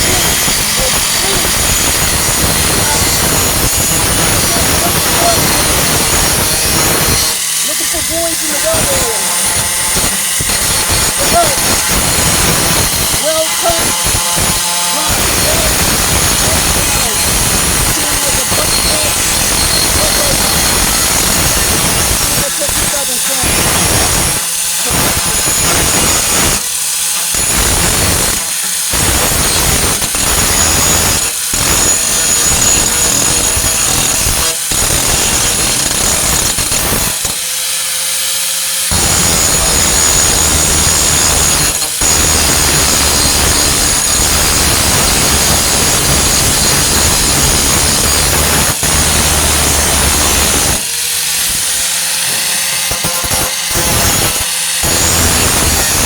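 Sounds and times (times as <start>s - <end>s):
angle grinder grinding metal: 0.0s - 56.0s.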